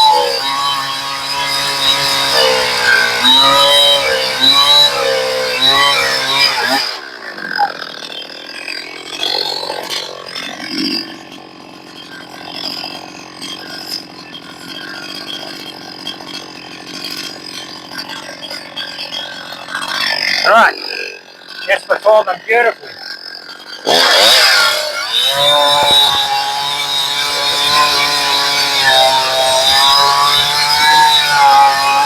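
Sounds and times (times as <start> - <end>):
chainsaw running then idling: 0.0 - 32.0.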